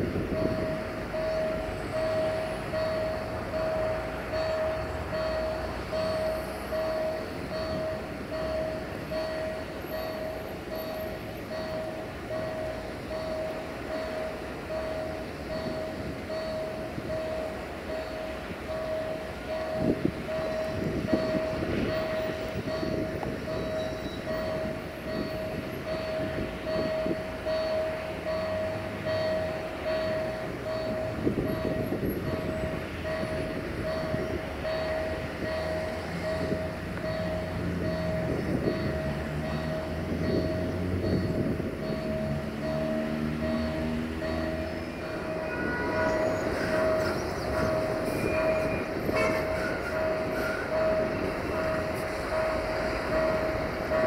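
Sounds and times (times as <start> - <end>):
locomotive diesel engine rumble: 0.0 - 54.0.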